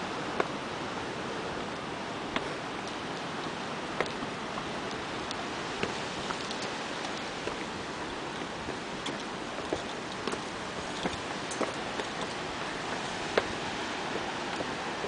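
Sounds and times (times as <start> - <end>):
surf breaking on rocks: 0.0 - 15.0.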